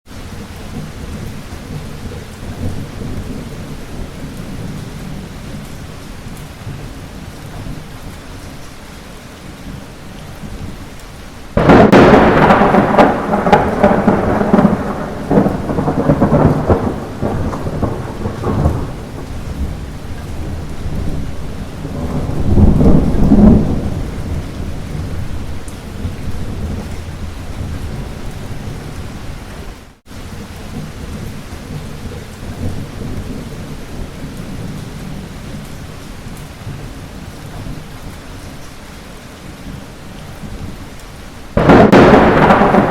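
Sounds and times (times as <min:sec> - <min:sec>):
light rain: 0:00.1 - 0:42.9
thunderclap rumbling: 0:00.6 - 0:07.9, 0:11.5 - 0:38.0, 0:39.7 - 0:42.9.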